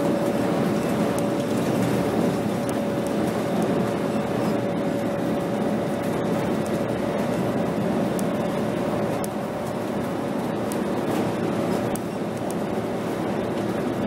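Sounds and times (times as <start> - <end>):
bus engine and road noise: 0.0 - 14.0
constant whine: 0.0 - 14.0.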